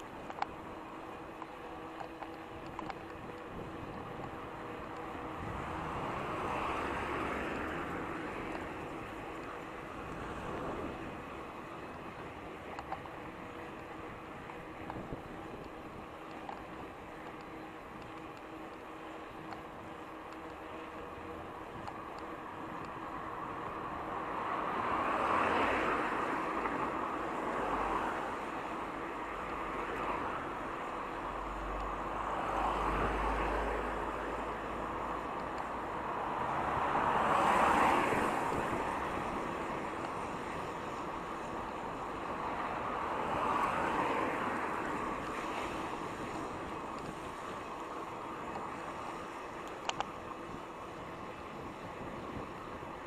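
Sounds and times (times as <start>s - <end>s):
vehicles swishing past: 0.0s - 53.0s
wind and road noise: 0.0s - 53.0s.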